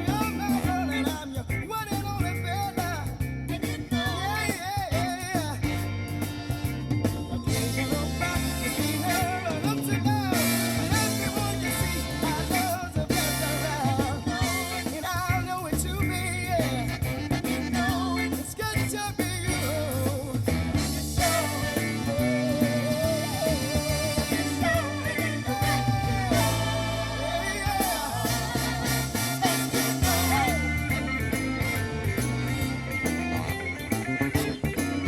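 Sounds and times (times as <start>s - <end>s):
funk song through car speakers: 0.0s - 35.0s.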